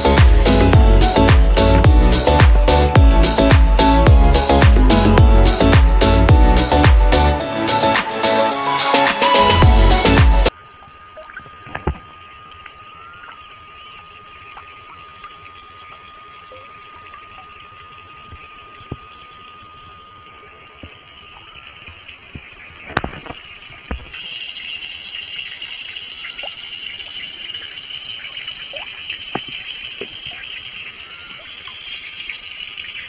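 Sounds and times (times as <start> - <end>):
water gushing: 0.0 - 33.0.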